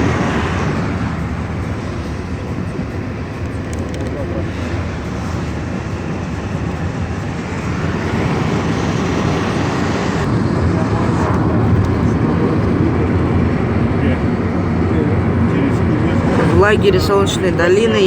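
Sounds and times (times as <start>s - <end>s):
car interior road noise: 0.0s - 18.0s.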